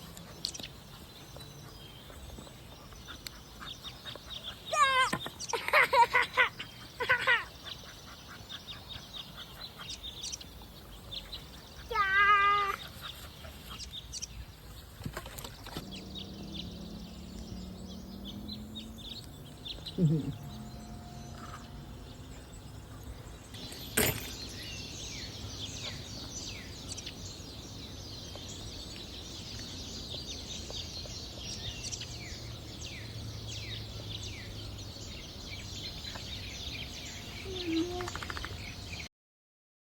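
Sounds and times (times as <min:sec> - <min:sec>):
small birds chirping: 0:00.0 - 0:39.1.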